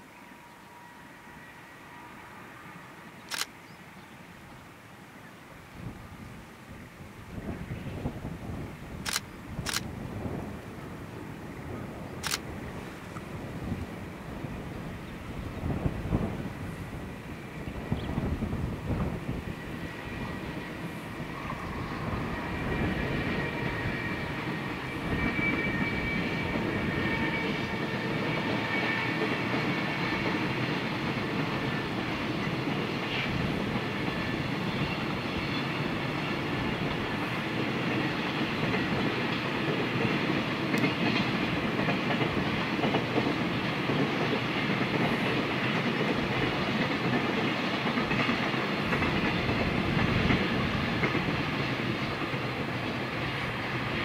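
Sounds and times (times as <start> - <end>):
train wheels rumbling on rails: 7.2 - 54.0.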